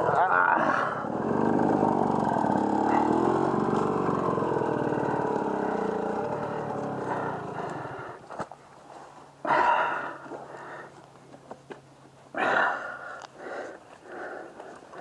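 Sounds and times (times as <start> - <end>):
off-road motorcycle engine: 0.0 - 13.0.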